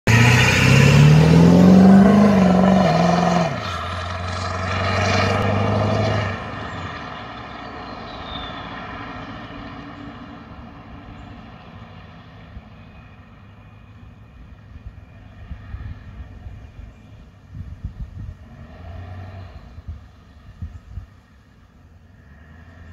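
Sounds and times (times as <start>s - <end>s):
diesel engine accelerating: 0.0s - 21.2s.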